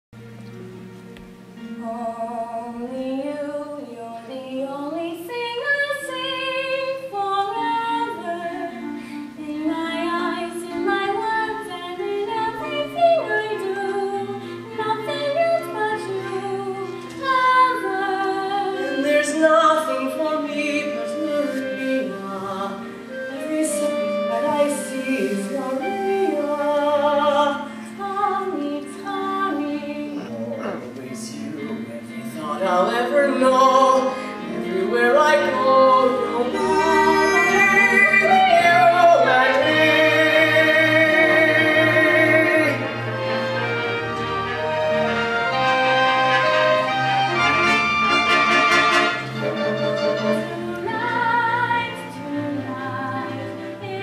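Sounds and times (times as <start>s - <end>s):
held instrumental accompaniment: 0.2s - 54.0s
woman singing with vibrato: 1.7s - 30.4s, 31.3s - 43.0s, 47.7s - 54.0s.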